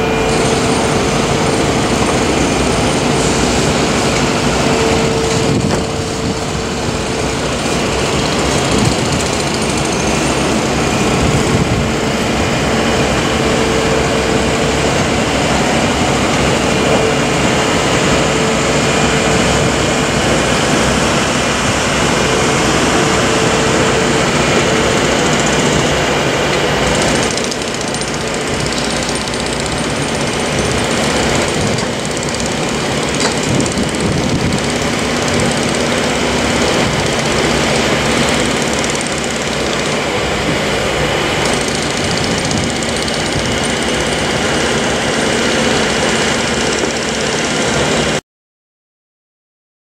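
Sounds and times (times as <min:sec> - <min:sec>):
construction machinery engine running: 0:00.0 - 0:48.2.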